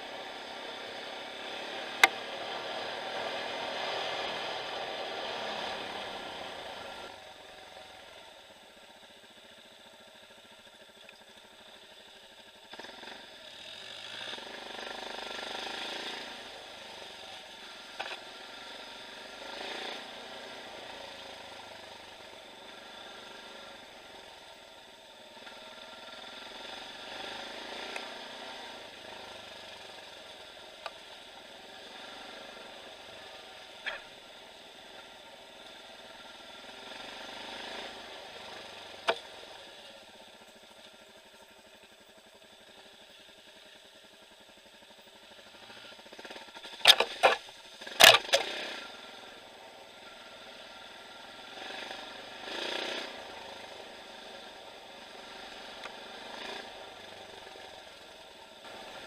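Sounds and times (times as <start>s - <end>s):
dirt bike engines running: 0.0s - 59.0s.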